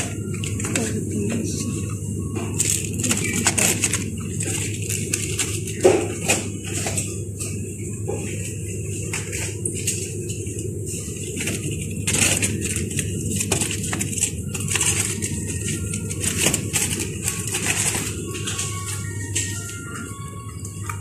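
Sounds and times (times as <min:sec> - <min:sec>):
crackling and rustling: 0:00.0 - 0:20.1
steady low hum: 0:00.0 - 0:21.0.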